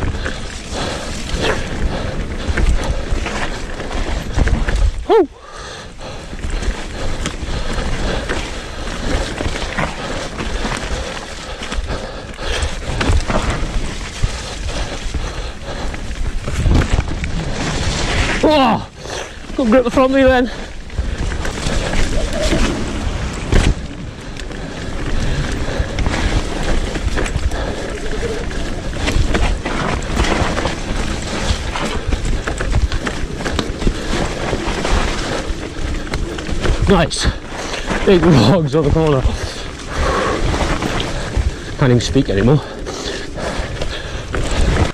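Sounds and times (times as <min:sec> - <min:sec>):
bike knocking and rattling: 0:00.0 - 0:05.1, 0:05.8 - 0:44.9
wind rumbling on microphone: 0:00.0 - 0:44.9
tyres crunching over leaves: 0:06.0 - 0:44.9.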